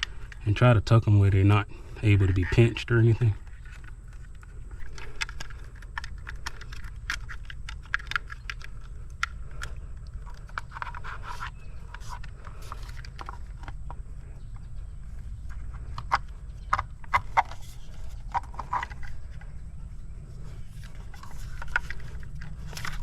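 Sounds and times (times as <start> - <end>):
steady low rumble: 0.0 - 23.0
clicks and scrapes of wires: 2.3 - 14.0, 15.5 - 19.7, 20.4 - 23.0.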